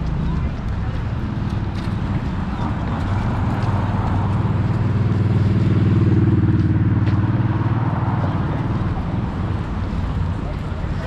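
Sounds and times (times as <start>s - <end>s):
street traffic noise: 0.0s - 11.0s
vehicle engine humming: 0.0s - 11.0s.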